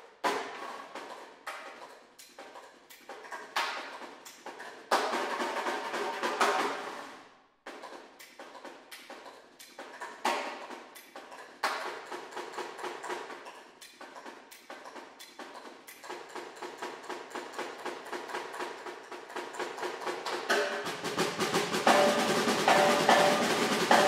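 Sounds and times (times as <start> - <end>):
snare drum strokes: 0.0 - 24.0.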